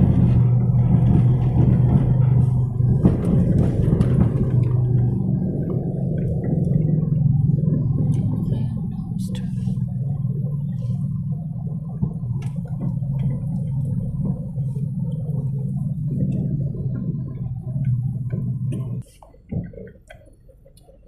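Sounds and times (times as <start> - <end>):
car driving rumble inside cabin: 0.0 - 21.0.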